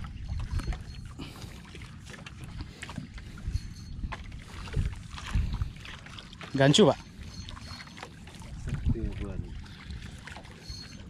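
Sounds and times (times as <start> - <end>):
wind buffeting microphone: 0.0 - 1.3, 2.3 - 11.0
water lapping against canoe: 0.0 - 11.0.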